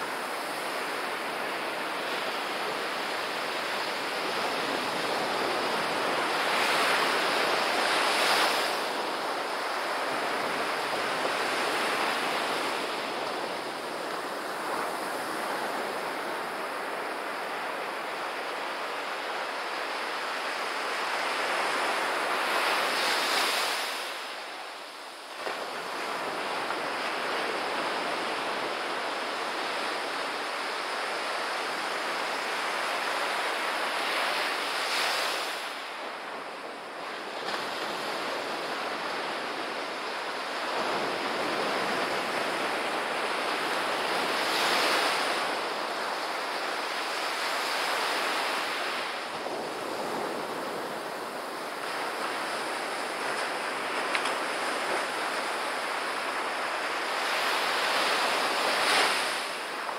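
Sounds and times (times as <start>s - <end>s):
small waves breaking on sand: 0.0s - 59.9s.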